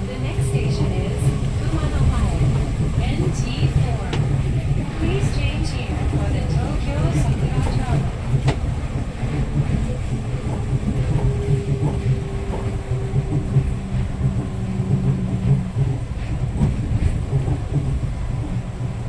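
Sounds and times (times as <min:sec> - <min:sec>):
rumble of tyres and running gear: 0:00.0 - 0:19.0.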